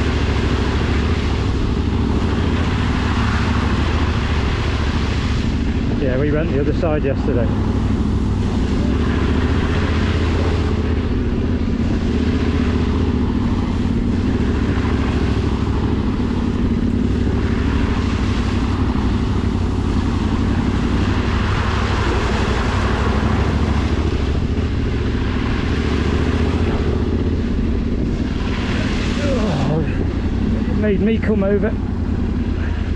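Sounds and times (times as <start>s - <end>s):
motorcycle engine running: 0.0s - 32.9s
wind and road noise: 0.0s - 32.9s.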